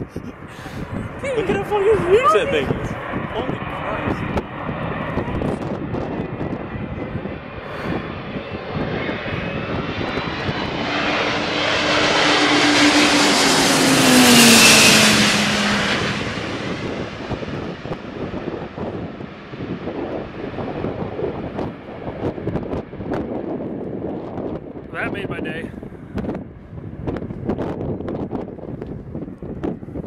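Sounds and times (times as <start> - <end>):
jet aircraft passing overhead: 0.0 - 30.0.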